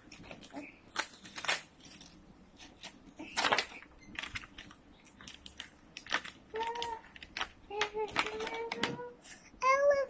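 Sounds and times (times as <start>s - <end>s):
plastic packaging crackling: 0.0s - 9.2s.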